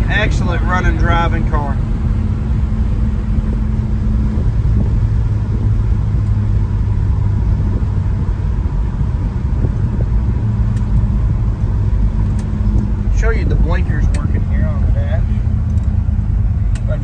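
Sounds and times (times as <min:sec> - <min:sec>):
car engine droning: 0:00.0 - 0:17.0
tyre and road noise: 0:00.0 - 0:17.0.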